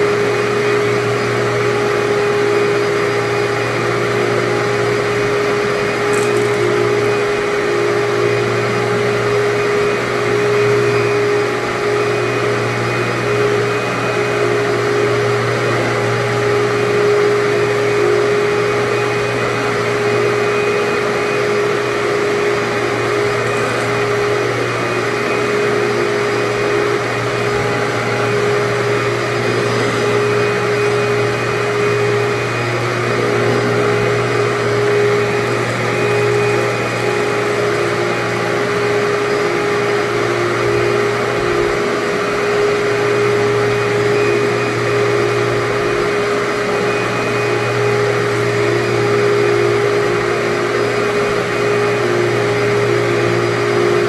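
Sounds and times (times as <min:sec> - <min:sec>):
vacuum cleaner running on carpet: 0:00.0 - 0:54.0.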